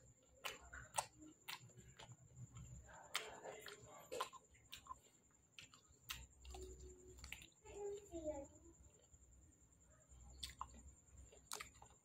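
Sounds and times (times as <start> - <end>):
person chewing fruit: 0.0 - 8.1, 10.2 - 12.0.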